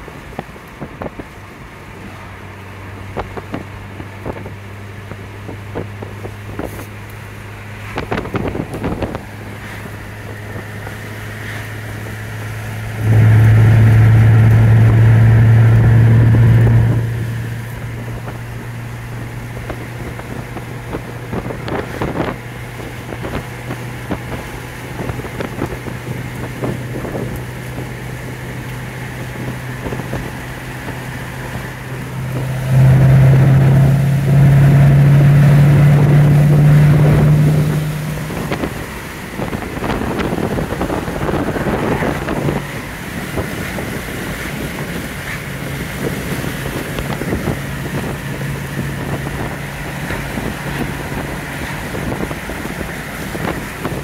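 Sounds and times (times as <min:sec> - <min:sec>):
car engine droning: 0:00.0 - 0:54.0
wind noise: 0:03.0 - 0:54.0.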